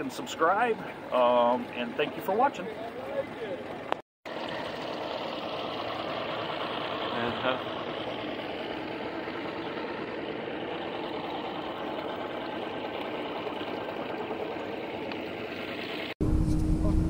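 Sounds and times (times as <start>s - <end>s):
outboard boat motors idling: 0.0s - 16.2s.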